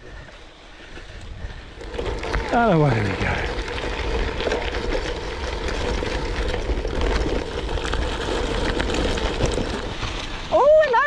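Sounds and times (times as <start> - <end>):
stones and bike rattling: 0.0 - 11.0
tyre noise: 0.0 - 11.0.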